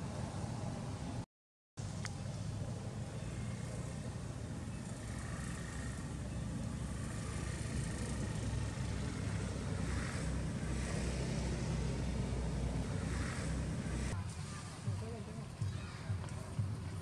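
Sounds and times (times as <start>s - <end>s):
low outdoor rumble: 0.0s - 1.2s, 1.8s - 17.0s.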